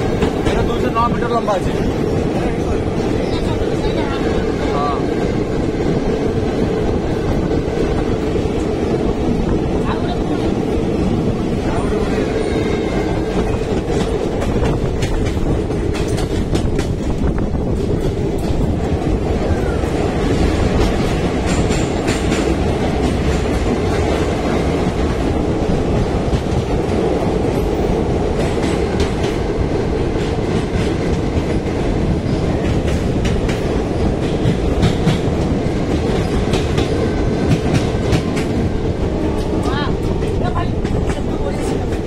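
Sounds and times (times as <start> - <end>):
clickety-clack of rail joints: 0.0 - 42.0
train wheels rumbling on rails: 0.0 - 42.0.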